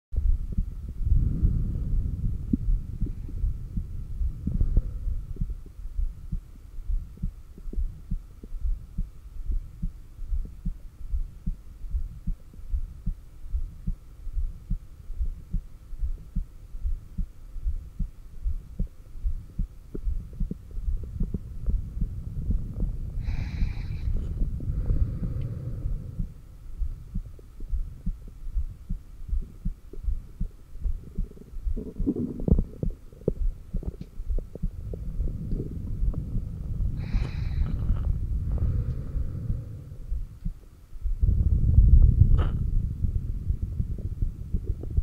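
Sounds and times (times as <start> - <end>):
heartbeat thumps through stethoscope: 0.2 - 45.0.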